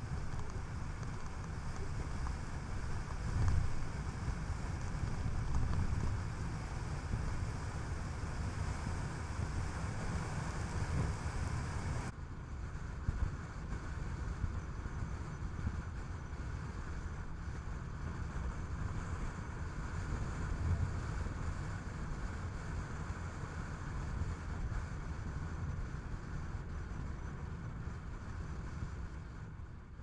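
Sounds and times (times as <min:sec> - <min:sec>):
wind hiss: 0:00.0 - 0:29.7
tyre and engine rumble: 0:00.0 - 0:30.0.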